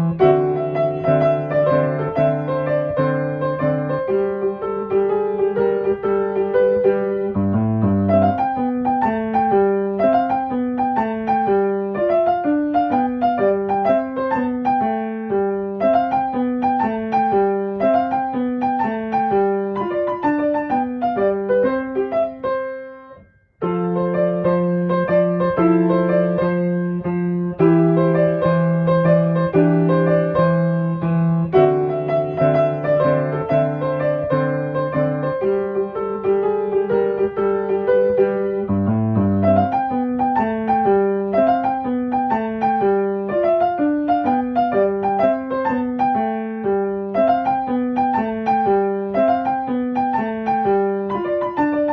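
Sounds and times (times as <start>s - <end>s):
gentle piano melody: 0.0s - 51.9s.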